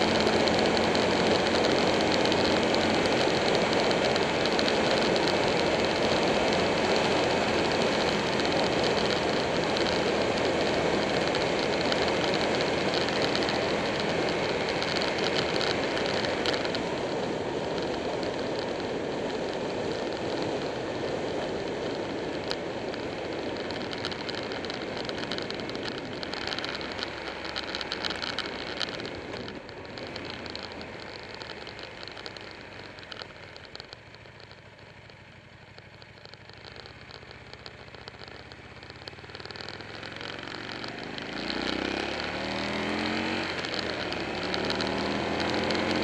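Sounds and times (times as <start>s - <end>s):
faint motorcycle engine: 0.0s - 46.0s.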